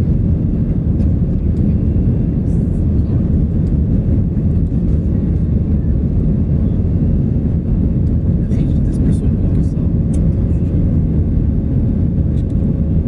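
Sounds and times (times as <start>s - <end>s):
jet engines roaring in cabin: 0.0s - 13.0s.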